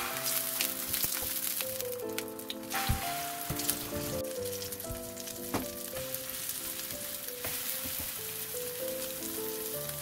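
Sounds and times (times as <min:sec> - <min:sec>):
keyboard music: 0:00.0 - 0:10.0
meat sizzling in oil: 0:00.0 - 0:10.0.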